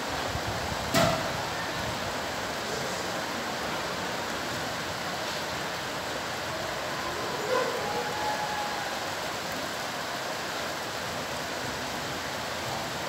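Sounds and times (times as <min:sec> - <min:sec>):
rain: 0:00.0 - 0:13.0
wind: 0:00.0 - 0:13.0.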